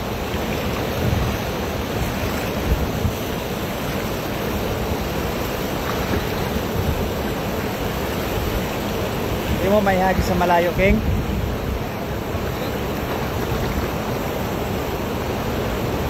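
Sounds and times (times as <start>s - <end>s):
wind buffeting microphone: 0.0s - 15.0s
river water rushing: 0.0s - 16.0s.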